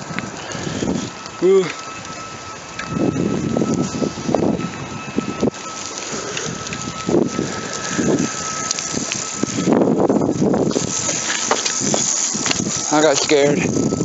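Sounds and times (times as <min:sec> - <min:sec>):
rustling and crunching: 0:00.0 - 0:14.0
wind buffeting microphone: 0:00.0 - 0:14.0.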